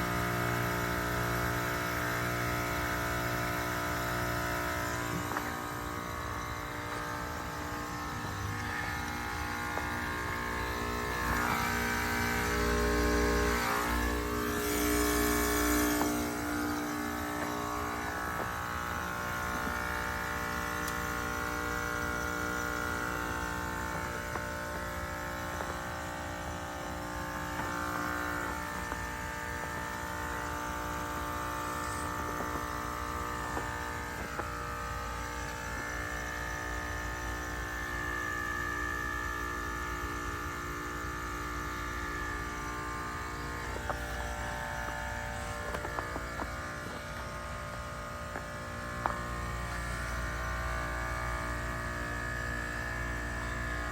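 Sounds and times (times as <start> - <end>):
heat pump buzzing hum: 0.0 - 53.9.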